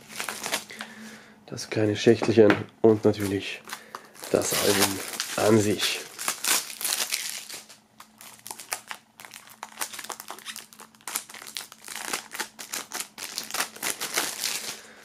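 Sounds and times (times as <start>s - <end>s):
plastic film crinkling: 0.0s - 0.9s, 3.0s - 15.0s.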